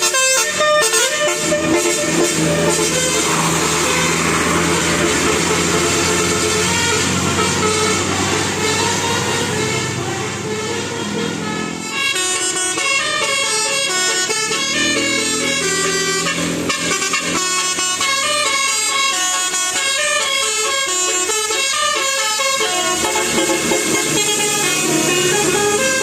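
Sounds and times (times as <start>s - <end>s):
musical air horn melody: 0.0s - 26.0s.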